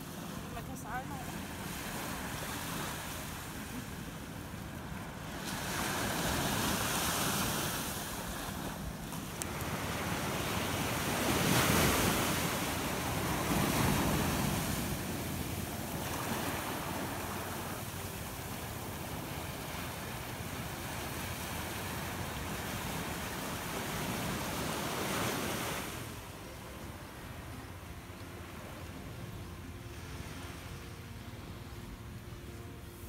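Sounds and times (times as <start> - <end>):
small waves breaking on beach: 0.0 - 27.7.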